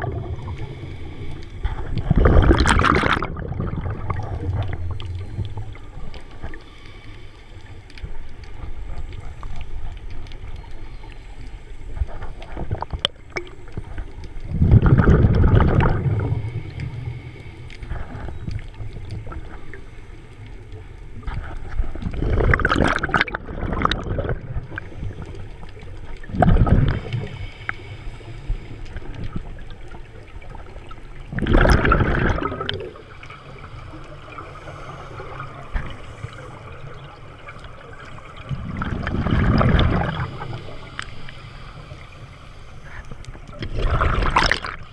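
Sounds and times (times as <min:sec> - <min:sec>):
underwater bubbles gurgling: 0:00.0 - 0:44.9.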